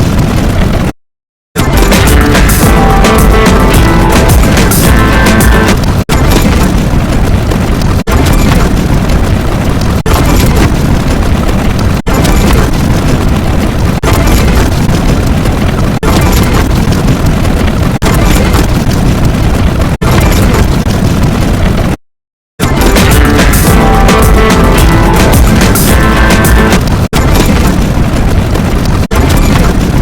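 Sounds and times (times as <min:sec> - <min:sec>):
distorted explosion sound effect: 0:00.0 - 0:01.0, 0:01.6 - 0:22.0, 0:22.6 - 0:30.0.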